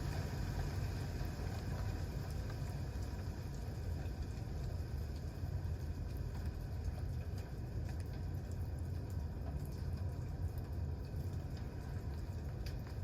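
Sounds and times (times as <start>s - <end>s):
campfire crackles and pops: 0.0s - 13.0s
fire low rumble: 0.0s - 13.0s.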